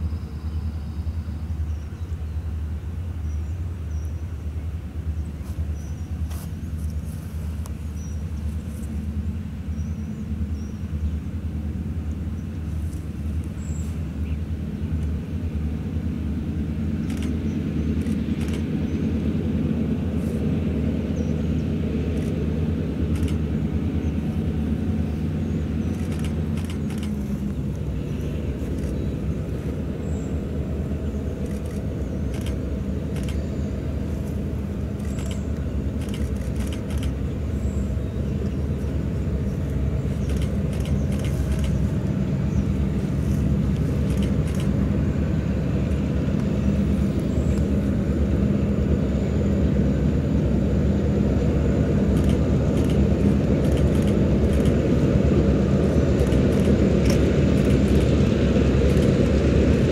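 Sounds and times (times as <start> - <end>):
distant diesel locomotive drone: 0.0 - 59.9.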